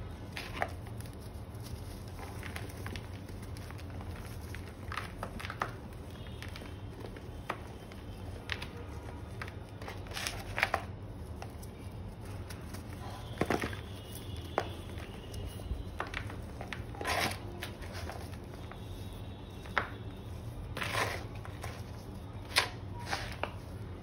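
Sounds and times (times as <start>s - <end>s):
chalk lumps crunching: 0.1s - 23.9s.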